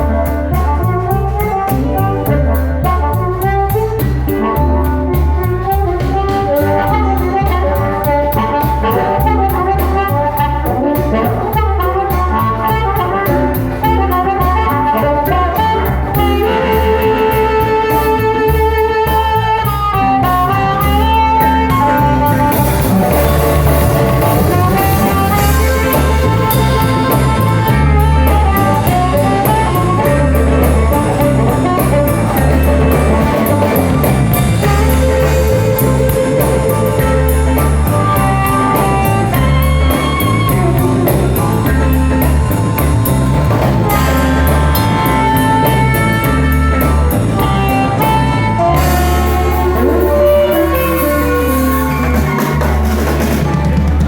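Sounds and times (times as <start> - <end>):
blues band playing: 0.0 - 54.0.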